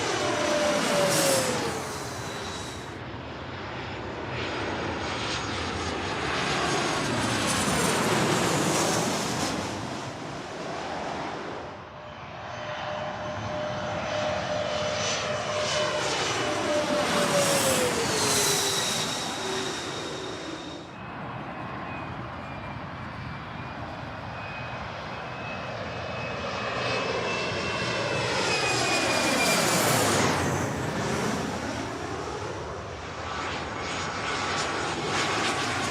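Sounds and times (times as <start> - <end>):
jet airplanes flying past: 0.0 - 35.9.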